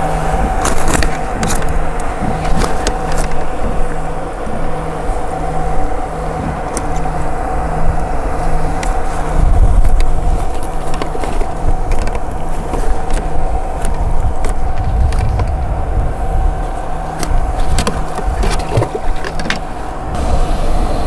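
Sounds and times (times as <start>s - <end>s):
pulsing mechanical hum: 0.0s - 21.0s
wind buffeting microphone: 0.0s - 21.0s.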